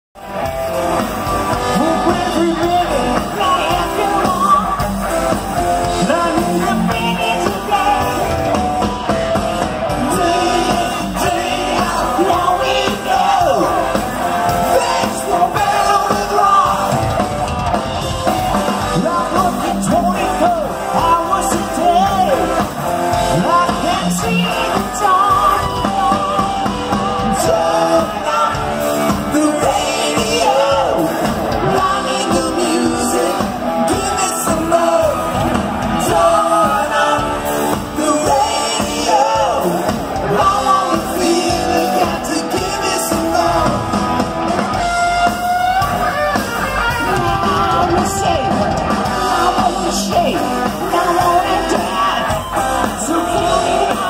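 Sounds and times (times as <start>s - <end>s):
bass guitar: 0.2s - 54.0s
drums: 0.2s - 54.0s
electric guitars: 0.2s - 54.0s
lead singer: 0.2s - 54.0s.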